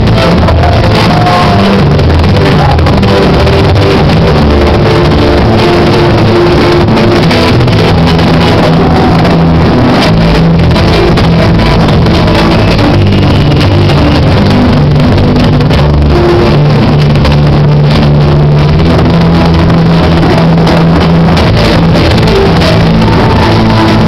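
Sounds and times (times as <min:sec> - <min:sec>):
loud dance music with bass: 0:00.0 - 0:24.0.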